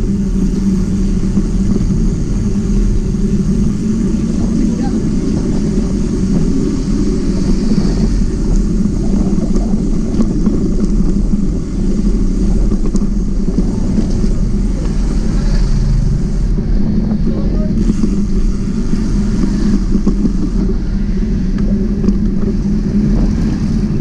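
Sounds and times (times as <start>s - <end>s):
bicycle tyre noise: 0.0s - 24.0s
wind rumble: 0.0s - 24.0s.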